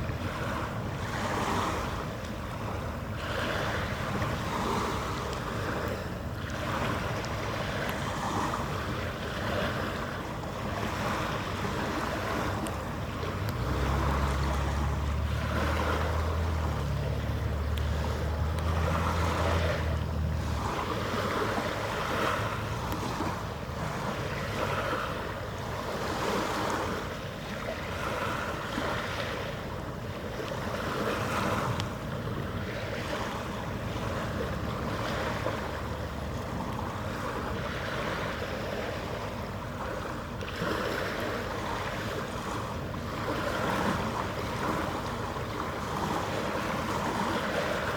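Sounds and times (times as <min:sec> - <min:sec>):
wind and water noise: 0:00.0 - 0:47.9.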